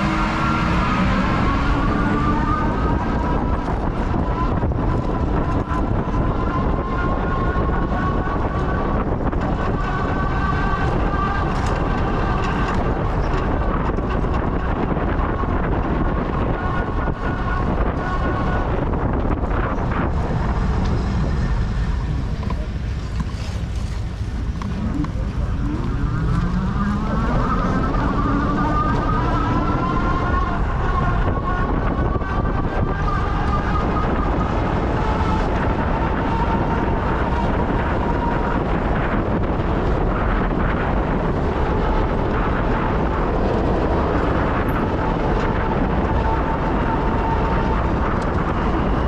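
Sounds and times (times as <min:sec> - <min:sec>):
e-bike motor whine: 0:00.0 - 0:49.0
wind rumbling on microphone: 0:00.0 - 0:49.0.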